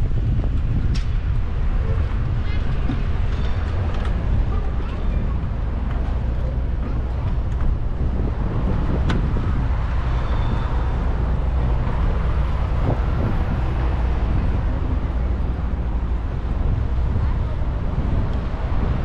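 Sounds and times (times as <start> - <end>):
engine and traffic rumble: 0.0 - 19.0.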